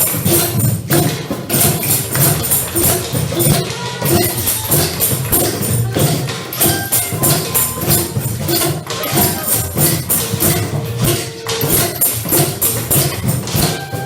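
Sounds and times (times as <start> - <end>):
music with jingling percussion: 0.0 - 14.0.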